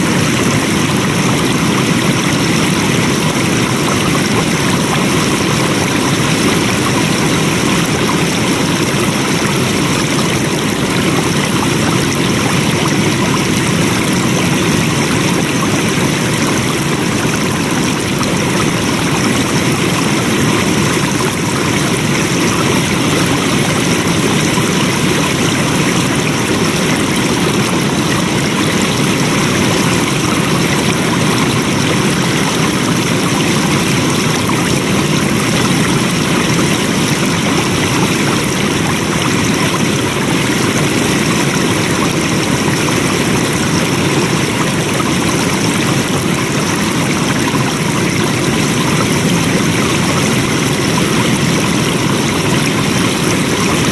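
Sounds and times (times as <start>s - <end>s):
water rushing steadily: 0.0s - 53.9s.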